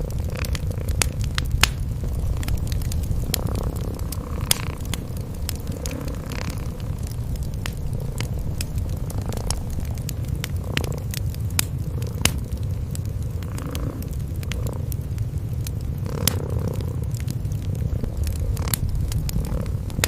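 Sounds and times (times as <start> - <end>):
cats purring: 0.0 - 20.0
wood fire crackling: 0.0 - 20.0.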